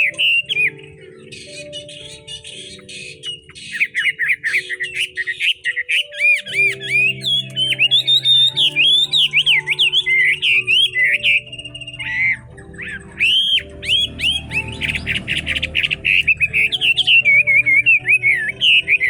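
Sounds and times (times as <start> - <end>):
background music: 0.0 - 19.0
bird singing whistled song: 0.0 - 19.0
harsh rasping bird notes: 0.0 - 19.0.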